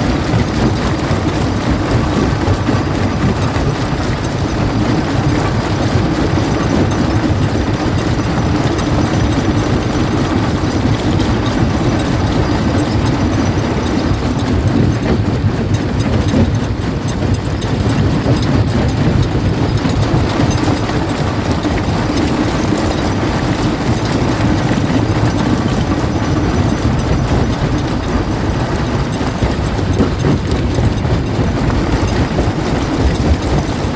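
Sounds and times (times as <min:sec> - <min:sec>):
rock crusher rumble: 0:00.0 - 0:33.9.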